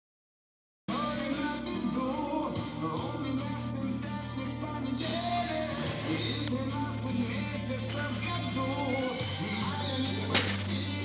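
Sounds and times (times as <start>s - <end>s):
song with singer and band: 0.9s - 11.0s.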